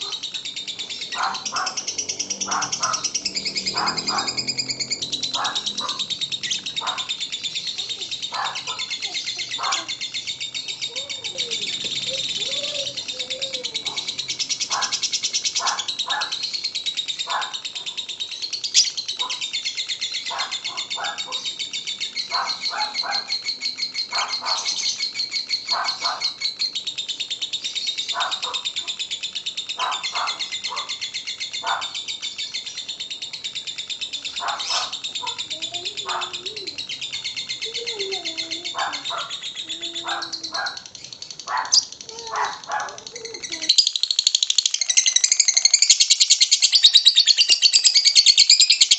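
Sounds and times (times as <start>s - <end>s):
lovebird chattering trill: 0.0s - 48.9s.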